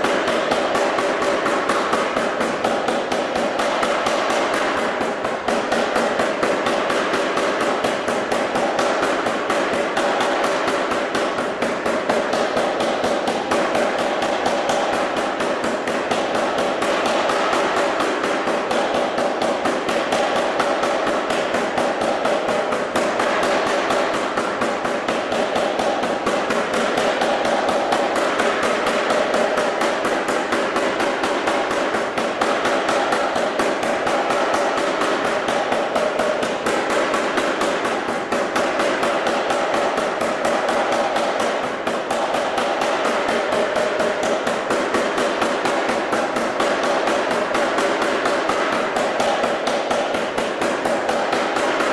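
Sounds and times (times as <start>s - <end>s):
power hammer striking hot steel: 0.0s - 51.9s.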